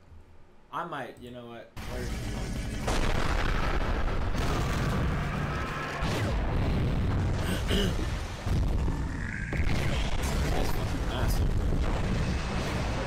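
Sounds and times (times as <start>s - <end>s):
explosion blasts: 2.1s - 13.0s.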